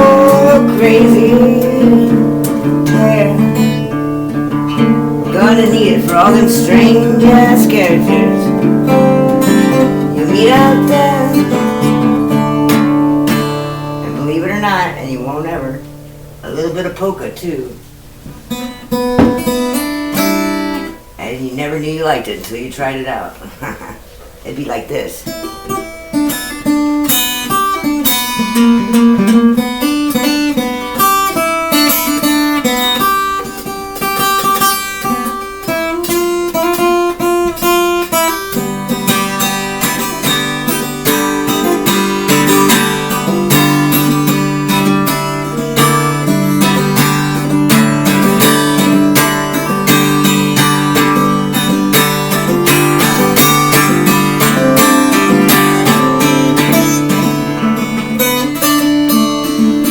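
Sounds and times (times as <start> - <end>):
acoustic guitar: 0.0 - 59.9.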